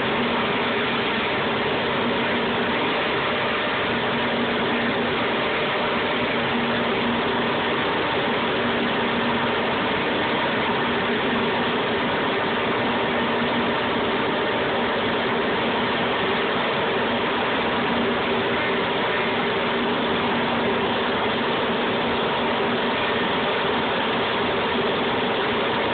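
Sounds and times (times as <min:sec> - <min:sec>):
cnc router running: 0:00.0 - 0:25.9.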